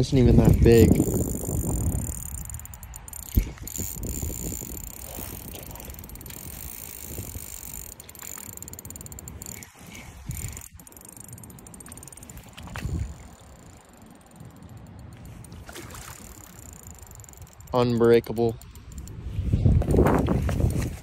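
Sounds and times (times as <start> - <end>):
fishing reel whirring and clicking: 0.0 - 21.0.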